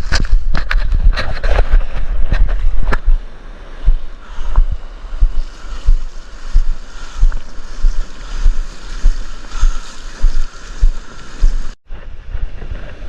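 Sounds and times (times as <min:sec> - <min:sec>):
low thumps: 0:00.0 - 0:11.7
wind buffeting microphone: 0:00.0 - 0:13.0.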